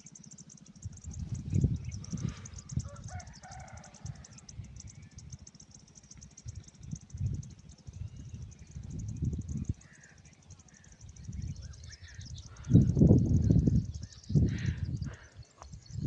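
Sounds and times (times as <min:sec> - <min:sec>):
insect chirr: 0:00.0 - 0:16.0
wind buffeting microphone: 0:00.7 - 0:05.5, 0:06.2 - 0:16.0.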